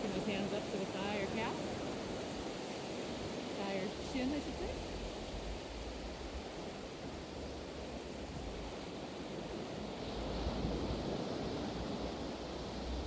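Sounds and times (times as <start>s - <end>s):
ocean surf washing: 0.0s - 13.0s
wind rumble on microphone: 0.0s - 13.0s.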